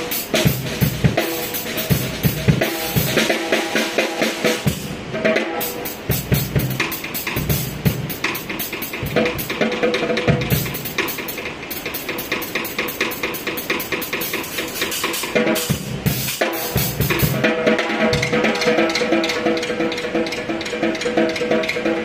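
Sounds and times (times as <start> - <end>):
drum kit with cymbals: 0.0 - 22.0
music backing track: 0.0 - 22.0.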